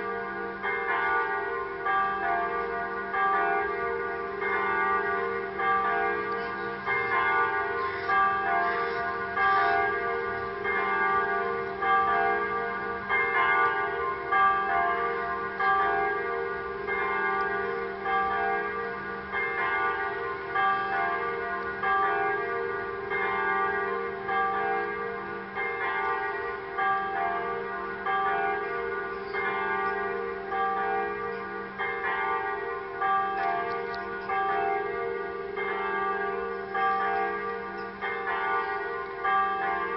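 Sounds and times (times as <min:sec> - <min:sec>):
church bells over loudspeakers: 0:00.0 - 0:39.9.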